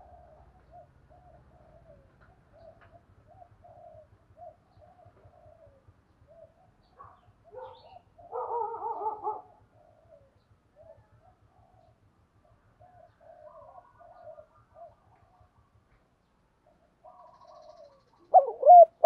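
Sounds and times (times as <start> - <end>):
dove cooing: 0.0 - 12.0, 12.8 - 15.6, 16.6 - 19.0.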